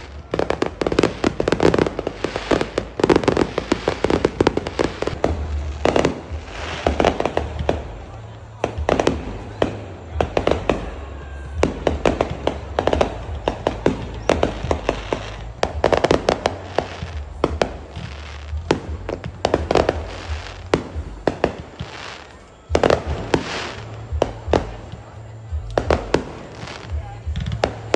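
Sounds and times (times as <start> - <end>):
fireworks bangs: 0.0 - 27.9
fireworks crackling: 0.0 - 27.9.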